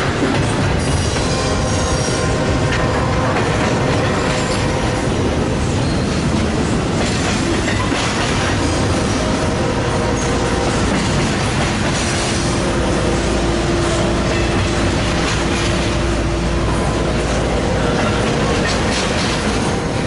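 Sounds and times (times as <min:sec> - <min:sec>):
train wheels clacking over rail: 0:00.0 - 0:20.0
wheels squealing on rail: 0:00.4 - 0:20.0.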